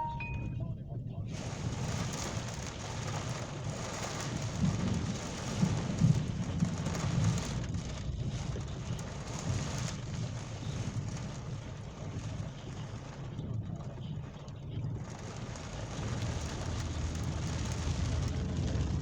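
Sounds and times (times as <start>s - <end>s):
rain falling: 0.0s - 0.6s, 1.3s - 19.0s
thunder rumble: 1.3s - 19.0s.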